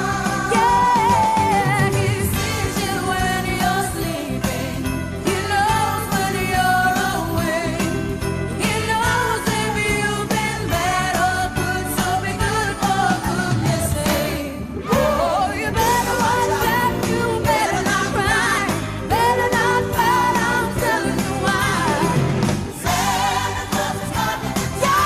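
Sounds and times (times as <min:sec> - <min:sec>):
song with lead vocals: 0:00.0 - 0:25.0.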